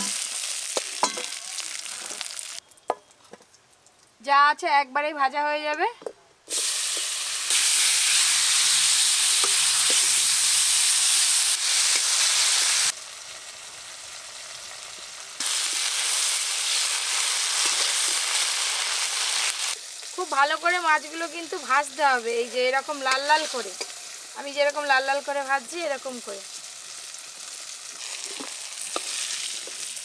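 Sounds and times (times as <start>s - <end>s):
fish sizzling in hot oil: 0.0s - 4.0s, 6.5s - 30.0s.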